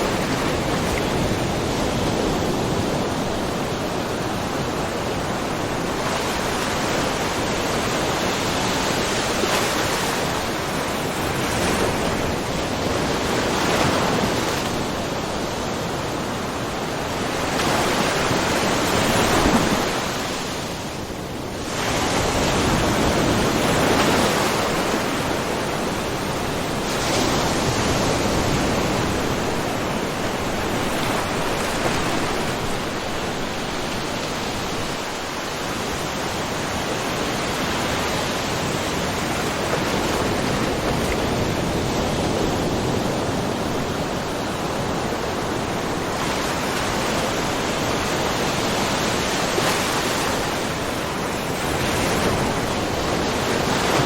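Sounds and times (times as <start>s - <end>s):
waves lapping on rocky shore: 0.0s - 54.0s.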